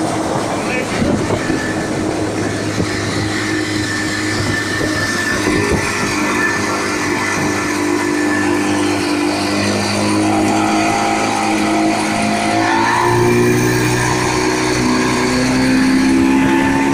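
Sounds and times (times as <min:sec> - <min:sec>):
outboard motor droning: 0:00.0 - 0:16.9
rushing wind: 0:00.0 - 0:16.9
water spray: 0:00.0 - 0:16.9.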